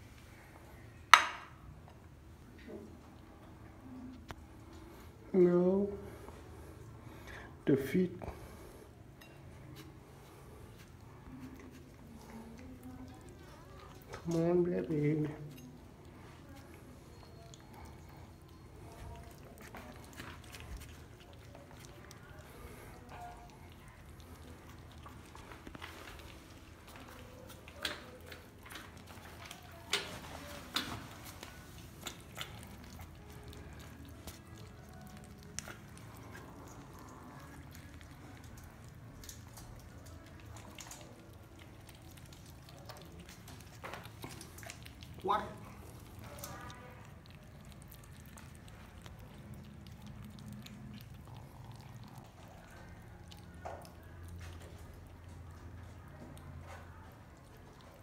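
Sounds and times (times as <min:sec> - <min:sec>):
kittens chewing and smacking: 0:00.0 - 0:05.4, 0:08.2 - 0:58.0.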